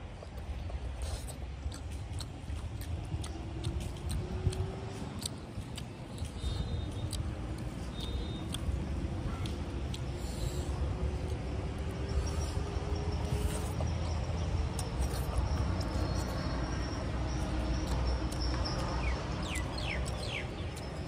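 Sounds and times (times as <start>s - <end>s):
steady low rumble: 0.0s - 21.0s
chewing and lip-smacking: 0.1s - 21.0s.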